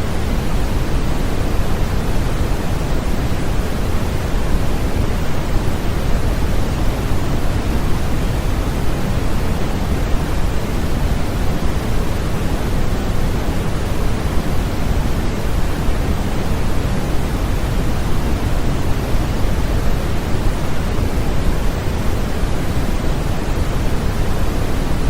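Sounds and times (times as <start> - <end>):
white noise hiss: 0.0 - 25.0.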